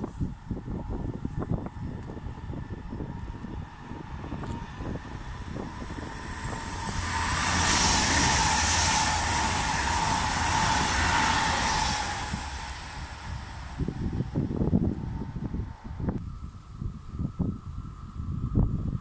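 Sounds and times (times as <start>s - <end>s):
train passing at speed: 0.0s - 19.0s.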